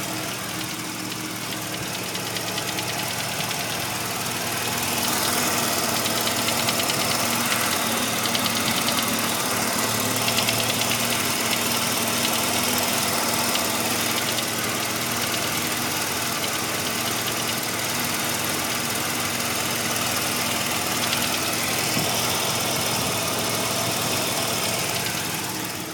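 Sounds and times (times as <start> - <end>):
engine knock ticking: 0.0 - 25.9
rotary engine running: 0.0 - 25.9.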